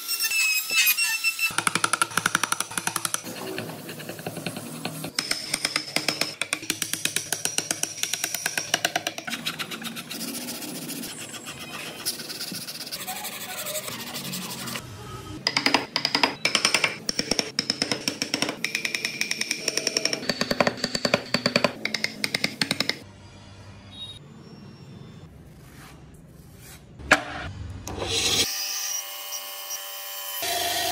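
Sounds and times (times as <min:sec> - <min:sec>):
faint workshop noise: 0:00.0 - 0:30.9.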